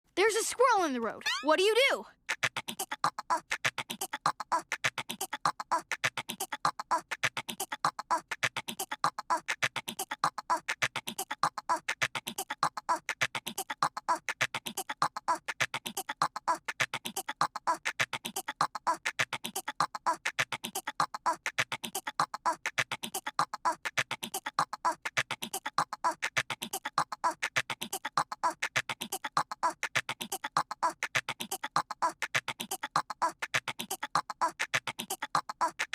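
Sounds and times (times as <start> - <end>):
voice imitating squirrel chatter: 1.1 - 35.9.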